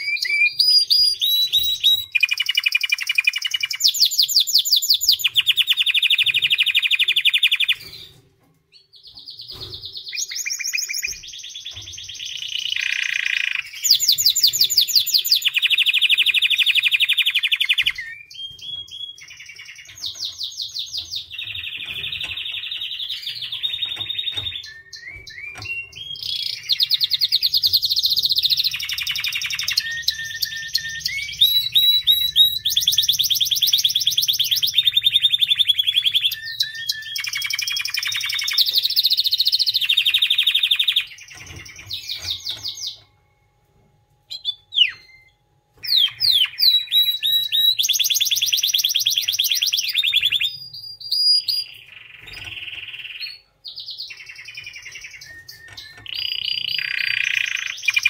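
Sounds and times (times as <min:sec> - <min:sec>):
canary singing trills: 0:00.0 - 0:43.2, 0:44.2 - 0:58.0.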